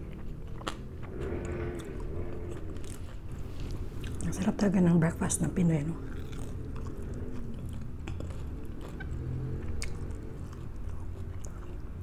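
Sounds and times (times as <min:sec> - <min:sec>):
person chewing food: 0:00.0 - 0:04.3, 0:06.0 - 0:12.0
steady low hum: 0:00.0 - 0:12.0.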